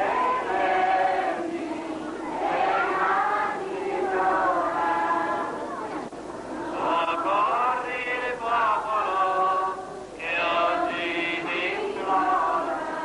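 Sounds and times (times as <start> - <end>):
group singing slow chant: 0.0 - 5.6, 6.6 - 13.0.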